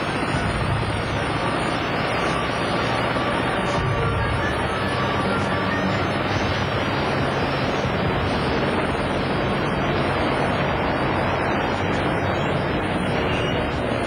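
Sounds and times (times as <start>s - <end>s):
helicopter engine and rotor: 0.0s - 14.0s.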